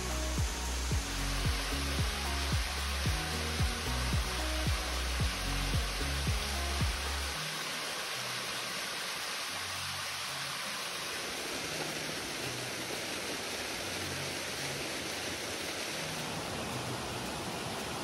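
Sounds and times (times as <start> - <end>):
music track: 0.0 - 18.0
waterfall rushing: 0.0 - 18.0.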